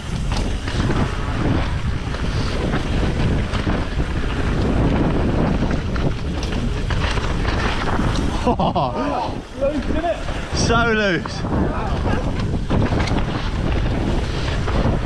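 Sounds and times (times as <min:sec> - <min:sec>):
bike knocks and rattles: 0:00.0 - 0:15.0
wind buffeting microphone: 0:00.0 - 0:15.0.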